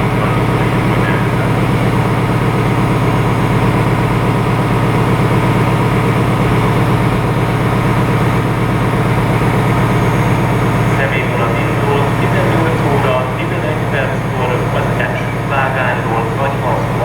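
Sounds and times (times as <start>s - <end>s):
locomotive engine droning: 0.0s - 17.0s.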